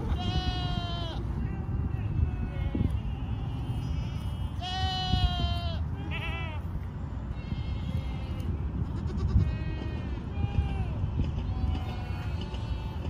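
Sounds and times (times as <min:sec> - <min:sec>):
goats bleating: 0:00.0 - 0:13.0.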